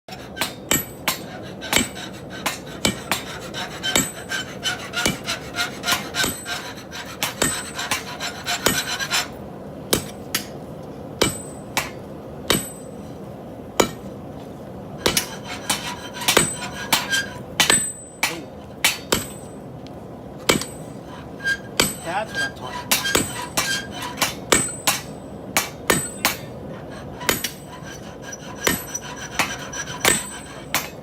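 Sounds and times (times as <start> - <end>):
hammer striking metal on anvil: 0.2 - 9.3, 9.9 - 10.6, 11.2 - 13.0, 13.8 - 14.1, 15.0 - 19.6, 20.4 - 26.6, 27.2 - 31.0.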